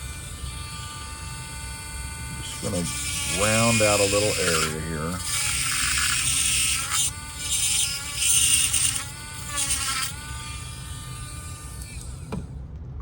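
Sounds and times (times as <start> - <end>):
rotary tool grinding plastic: 0.0 - 12.5.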